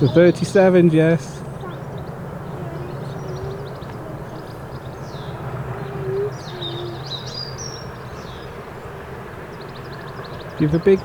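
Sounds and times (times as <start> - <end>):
distant diesel locomotive drone: 0.0 - 11.0
small birds chirping: 0.0 - 11.0.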